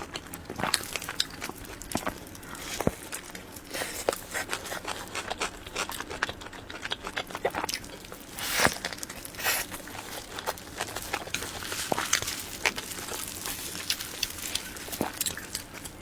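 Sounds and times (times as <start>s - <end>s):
wet chewing mouth sounds: 0.0s - 16.0s.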